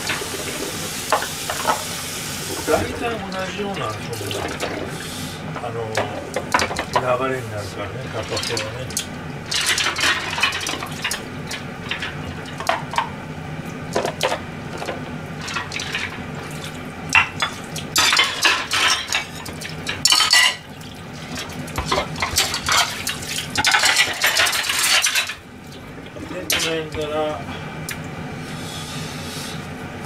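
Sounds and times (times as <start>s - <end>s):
dishes clattering in a sink: 0.0s - 1.9s, 2.6s - 7.2s, 8.1s - 13.1s, 13.9s - 25.4s, 26.1s - 27.4s
tap running: 0.0s - 7.3s, 7.9s - 28.1s.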